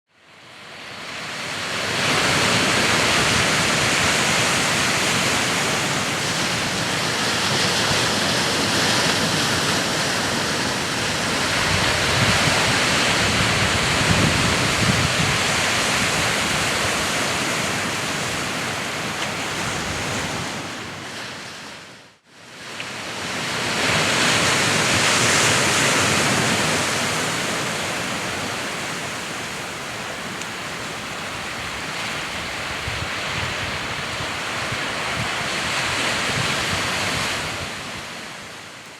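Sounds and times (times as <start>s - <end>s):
sea surf washing ashore: 0.3s - 38.9s.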